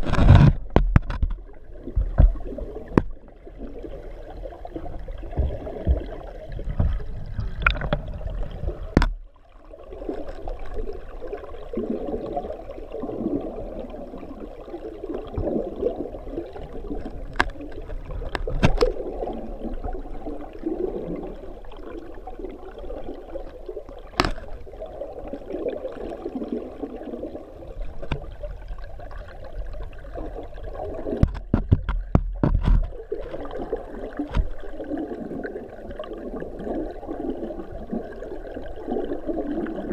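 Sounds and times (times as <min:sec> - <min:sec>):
underwater water rush: 0:00.0 - 0:39.9.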